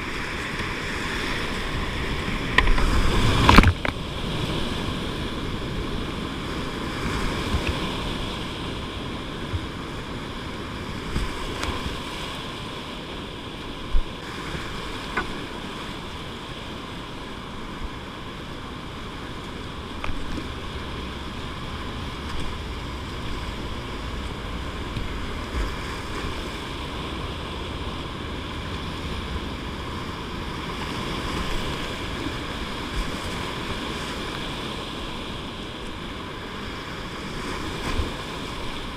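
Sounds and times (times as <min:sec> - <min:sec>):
paddle splashes: 0:00.0 - 0:38.9
waves slapping hull: 0:00.0 - 0:38.9
whitewater rapids rushing: 0:00.0 - 0:38.9.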